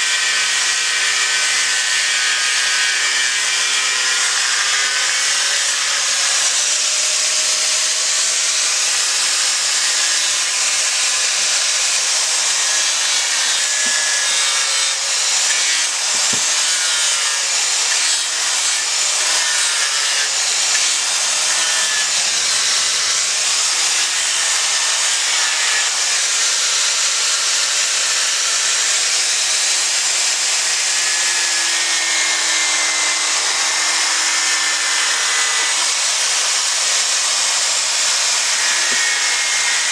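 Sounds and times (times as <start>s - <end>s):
angle grinder grinding wood: 0.0s - 39.9s.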